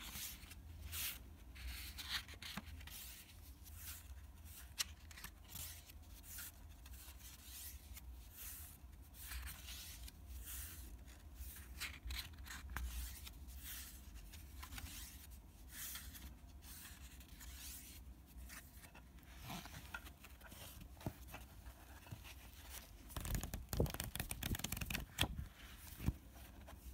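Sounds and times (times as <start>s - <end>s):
paper pages rustling: 0.0s - 8.0s, 9.2s - 26.9s.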